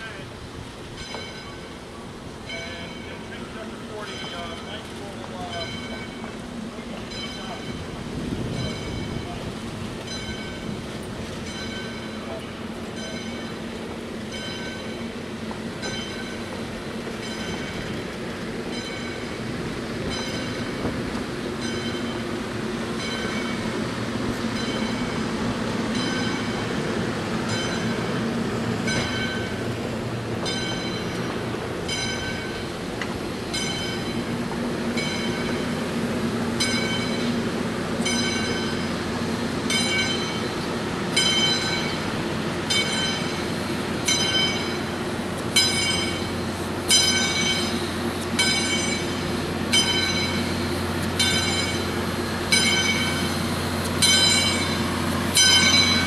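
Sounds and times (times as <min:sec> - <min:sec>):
train cars rolling on rails: 0:00.0 - 0:56.0
locomotive bell ringing: 0:00.9 - 0:56.0.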